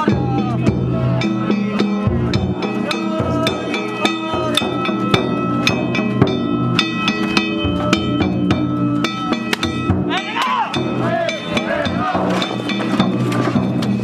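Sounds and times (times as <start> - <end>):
drumming: 0.0 - 14.0
hand-struck gongs ringing: 2.3 - 14.0.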